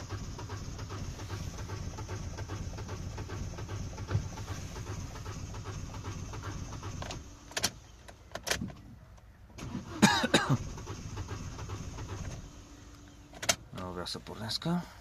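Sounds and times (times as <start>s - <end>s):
car engine cranking on starter: 0.0s - 8.8s, 9.5s - 15.0s.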